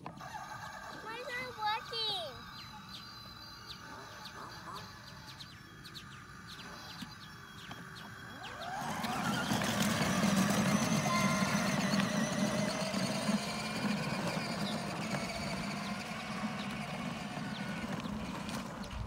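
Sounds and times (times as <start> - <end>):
toy motorcycle motor hum: 0.0 - 19.0
wheels rolling on asphalt: 0.0 - 19.0.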